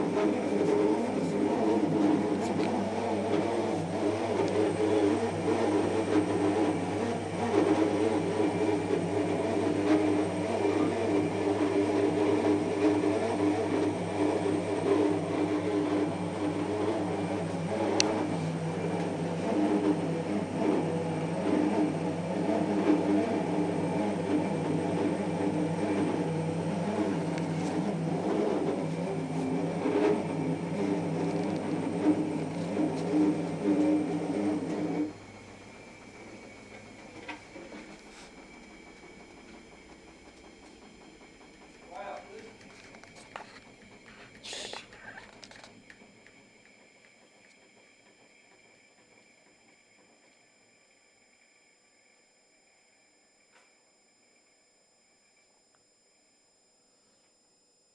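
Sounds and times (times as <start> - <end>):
washing machine running: 0.0 - 57.9.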